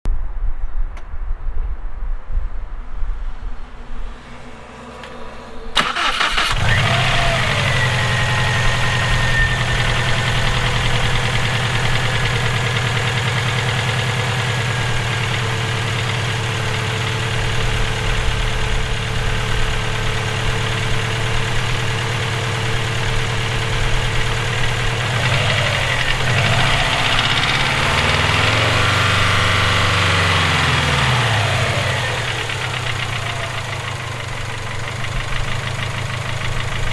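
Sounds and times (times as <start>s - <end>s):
car engine starting and idling: 3.9s - 36.9s.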